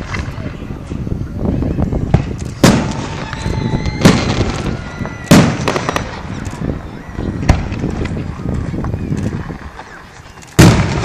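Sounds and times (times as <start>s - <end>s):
fireworks bursting with rumble: 0.0s - 11.0s.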